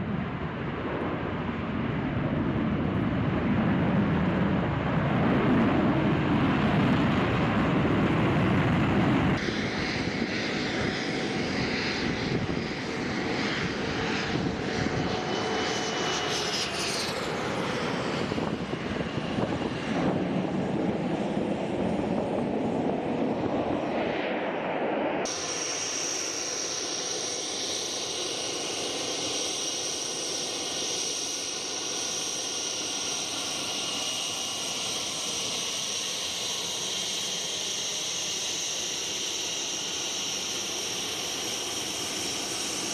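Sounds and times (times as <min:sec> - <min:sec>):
jet engine roar: 0:00.0 - 0:42.9.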